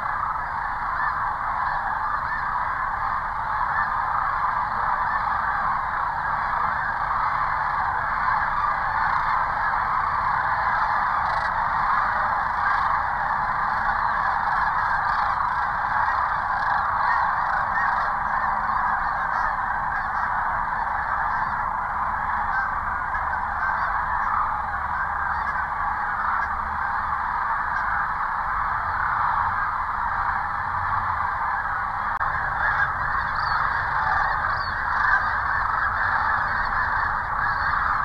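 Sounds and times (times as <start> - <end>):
flock of cranes calling: 0.0 - 38.0.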